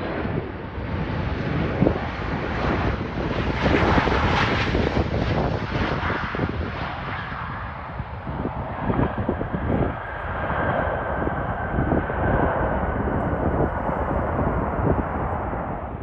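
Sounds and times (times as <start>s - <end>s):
jet engines passing: 0.0s - 16.0s.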